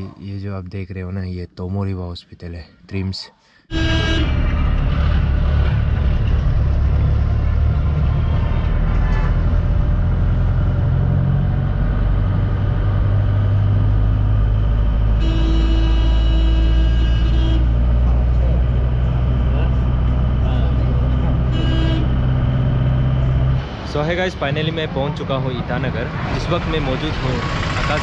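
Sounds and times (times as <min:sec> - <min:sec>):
vehicle engine and road rumble: 0:03.7 - 0:28.0.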